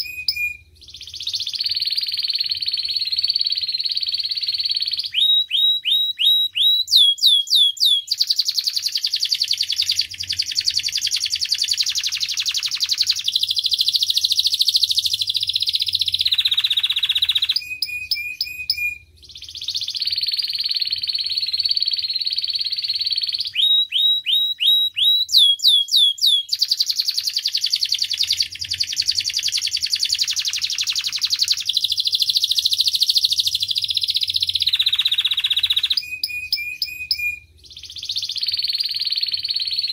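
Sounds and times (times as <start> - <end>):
canary singing rattling trills: 0.0 - 39.9
down-slurred whistles: 0.0 - 39.9.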